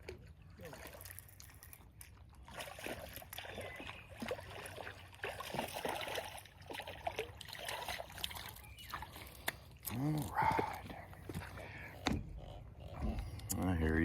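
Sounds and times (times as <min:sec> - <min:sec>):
water splashing and dribbling: 0:00.0 - 0:14.0.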